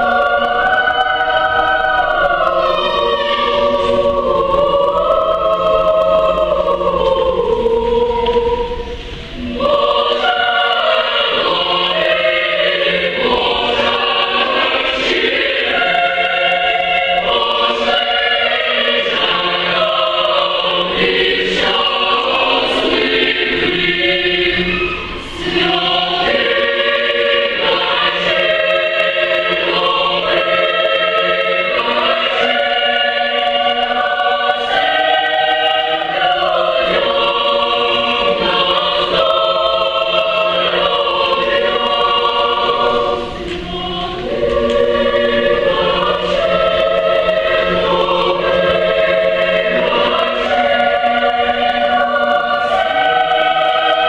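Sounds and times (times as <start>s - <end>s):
children's choir singing: 0.0s - 54.0s.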